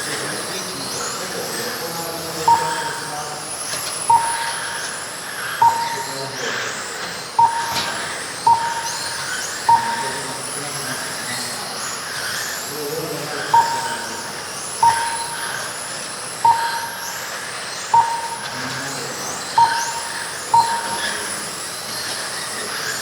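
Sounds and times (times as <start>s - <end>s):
electric motors whining: 0.0s - 23.0s
timing system beeps: 2.2s - 23.0s.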